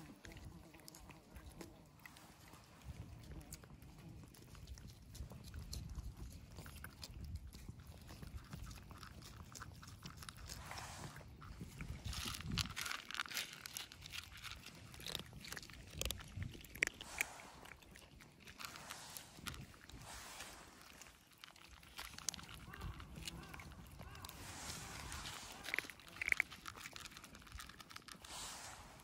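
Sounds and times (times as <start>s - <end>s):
cats crunching food: 0.0s - 29.0s.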